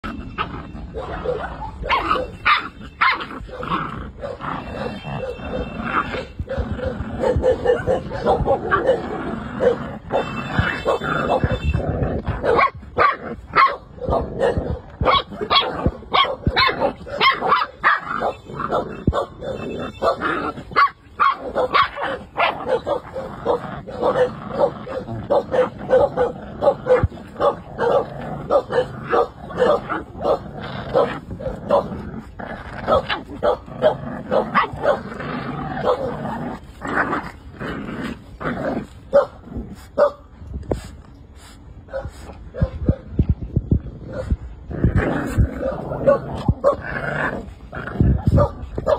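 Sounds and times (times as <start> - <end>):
puppies yipping and barking: 0.0 - 40.3.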